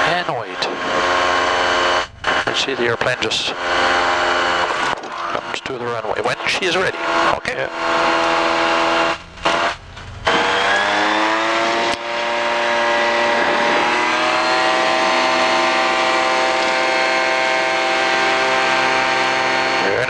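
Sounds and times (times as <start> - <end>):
propeller engine rising in pitch: 0.0 - 20.0.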